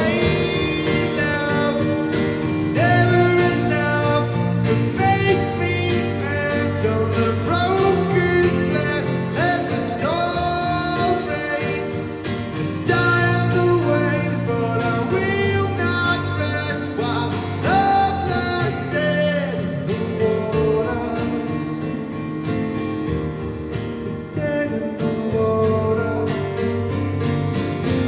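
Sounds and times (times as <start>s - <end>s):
man singing: 0.0s - 22.0s, 24.2s - 27.0s
strummed guitar: 0.0s - 28.0s.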